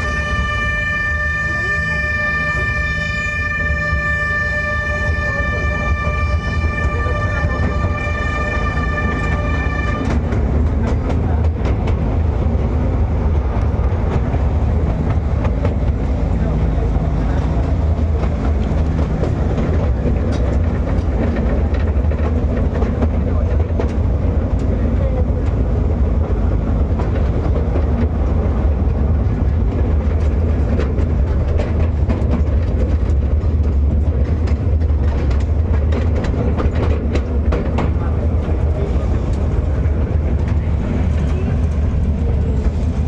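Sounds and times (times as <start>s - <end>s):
small train rumbling: 0.0s - 43.0s
wheels clicking on rails: 4.0s - 43.0s.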